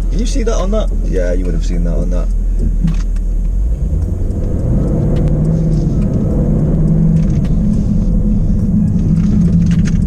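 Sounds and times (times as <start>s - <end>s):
car engine and exhaust: 0.0s - 10.0s.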